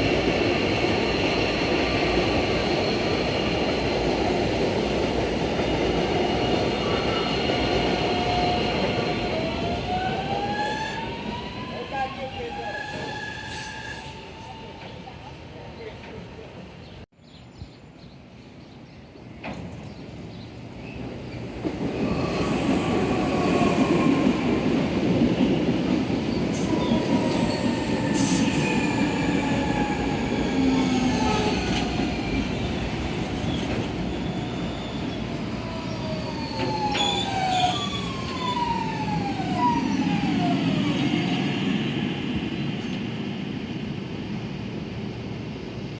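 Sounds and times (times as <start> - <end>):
electric train rumbling on rails: 0.0 - 17.0, 19.2 - 45.9.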